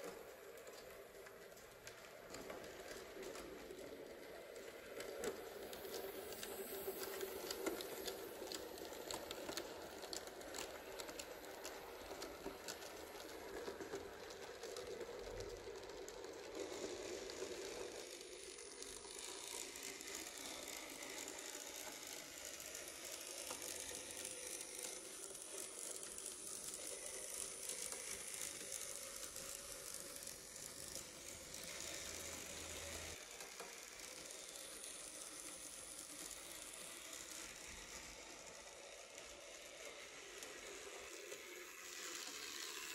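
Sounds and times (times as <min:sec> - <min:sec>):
small electric motor whir: 0:00.0 - 0:42.9
wheels clicking over rails: 0:00.0 - 0:42.9.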